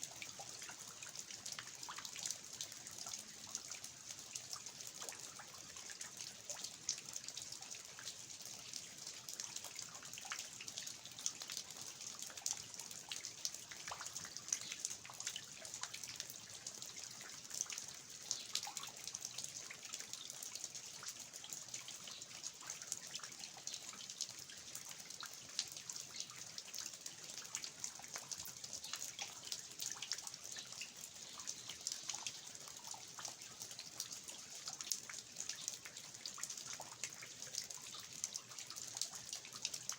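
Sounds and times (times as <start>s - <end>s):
water dripping from eaves: 0.0s - 39.9s.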